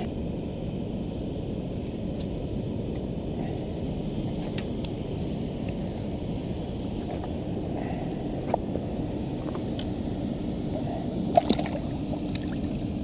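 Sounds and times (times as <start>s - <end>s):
low rushing noise: 0.0s - 13.0s.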